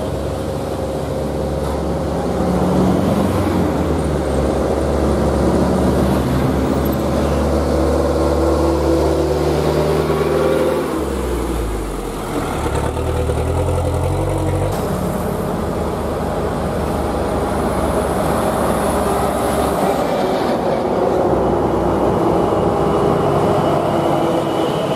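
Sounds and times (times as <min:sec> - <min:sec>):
diesel truck engines: 0:00.0 - 0:24.9.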